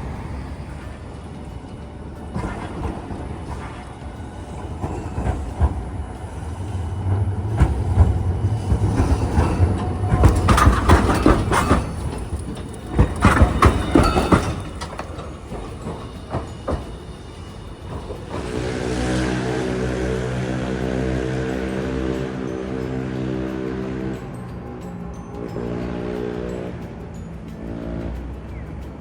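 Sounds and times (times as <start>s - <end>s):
streetcar wheels clattering on rails: 0.0s - 29.0s.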